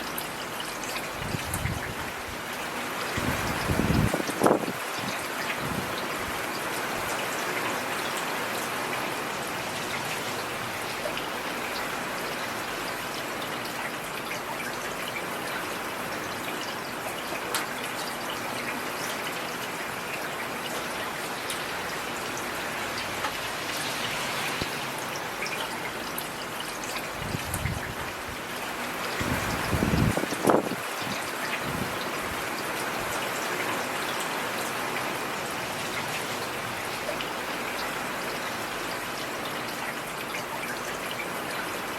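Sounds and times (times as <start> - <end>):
heavy rain falling: 0.1 - 41.9.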